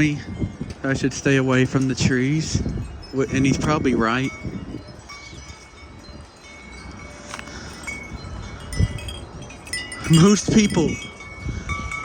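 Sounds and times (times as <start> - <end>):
strong gusty wind: 0.0 - 12.0
wind chimes ringing: 0.0 - 12.0.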